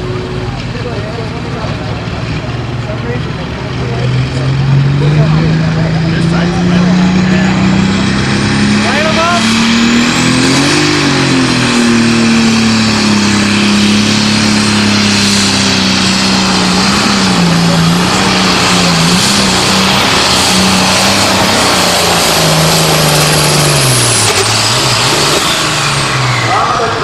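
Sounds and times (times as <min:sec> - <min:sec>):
diesel tractor engine at full load: 0:00.0 - 0:27.0
high whine: 0:04.2 - 0:27.0.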